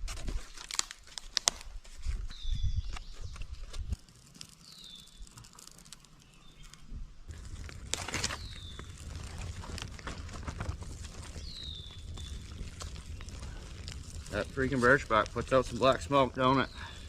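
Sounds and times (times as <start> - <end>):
dry bark rustling and crackling: 0.0 - 17.0.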